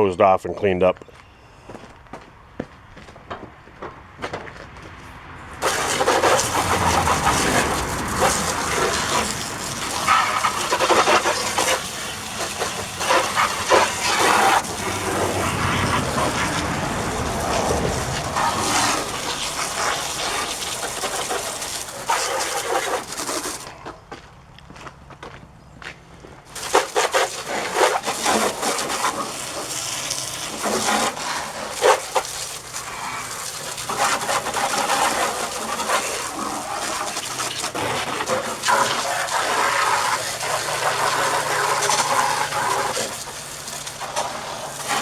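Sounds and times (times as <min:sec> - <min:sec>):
hose water spraying on machine: 0:05.6 - 0:23.6, 0:26.5 - 0:45.0.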